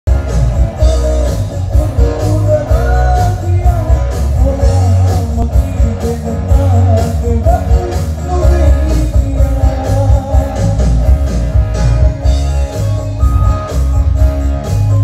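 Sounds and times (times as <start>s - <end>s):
heavy bass: 0.1s - 15.0s
steady drum beat: 0.1s - 15.0s
man singing: 0.6s - 13.8s.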